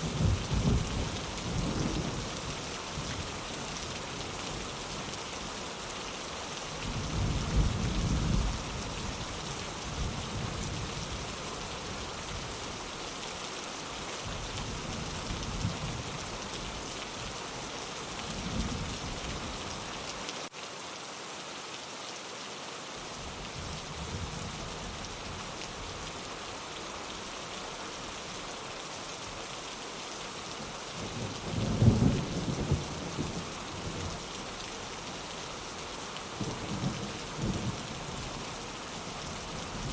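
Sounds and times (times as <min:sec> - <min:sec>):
rain on a window: 0:00.0 - 0:20.6, 0:27.7 - 0:39.9.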